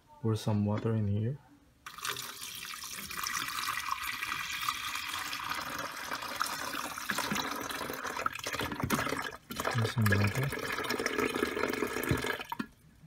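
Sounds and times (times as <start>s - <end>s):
water pouring into container: 1.9s - 12.8s.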